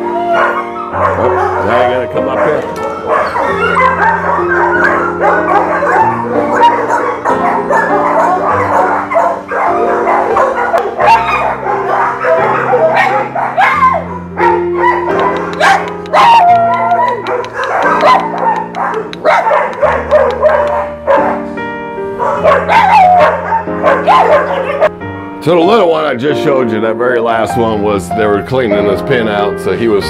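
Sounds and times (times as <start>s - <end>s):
dogs barking and yipping: 0.0s - 25.0s.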